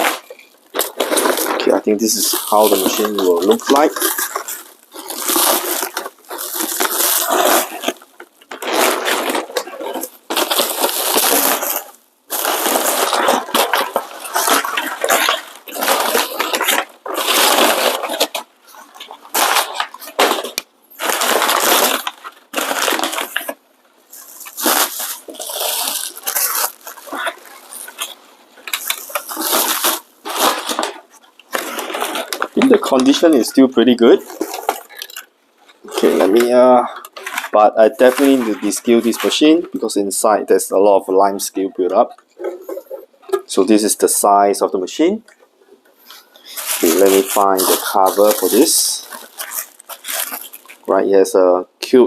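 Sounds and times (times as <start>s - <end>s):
bubble wrap crinkling: 0.0s - 51.7s.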